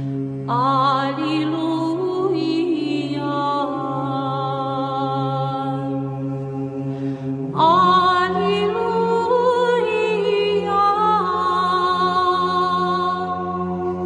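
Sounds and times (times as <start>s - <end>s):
held drone note: 0.0s - 14.0s.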